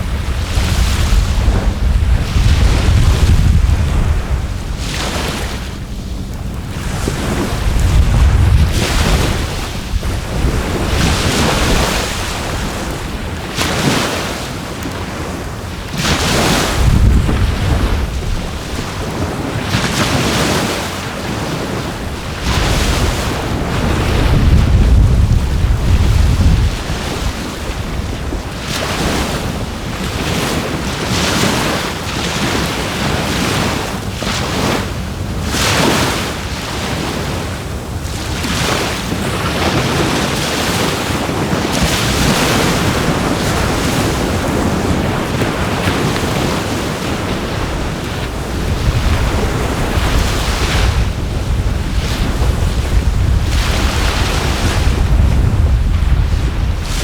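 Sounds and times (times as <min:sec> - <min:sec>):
sea waves washing on shore: 0:00.0 - 0:57.0
wind rumbling on microphone: 0:00.0 - 0:57.0.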